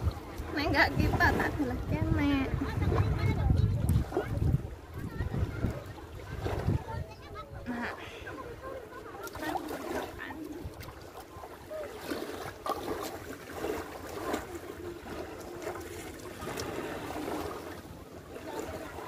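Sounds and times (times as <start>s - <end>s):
seawater sloshing around feet: 0.0s - 19.0s
small splashes: 0.0s - 19.0s.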